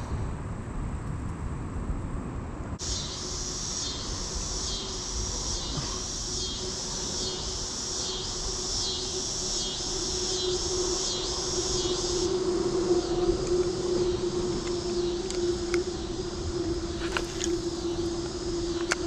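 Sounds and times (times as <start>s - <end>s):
cicadas chorusing: 2.8s - 19.0s.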